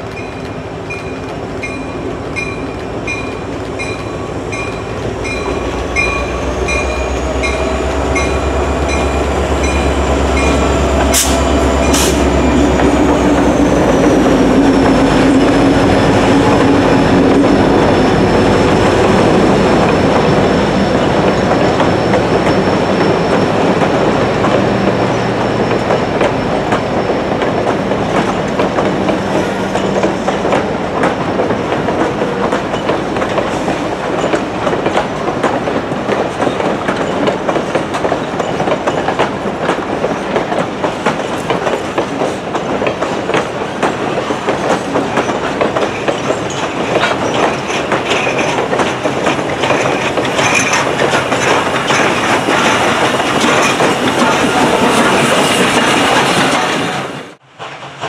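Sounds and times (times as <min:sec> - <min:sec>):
train wheels clicking over rail joints: 0:00.0 - 0:58.0.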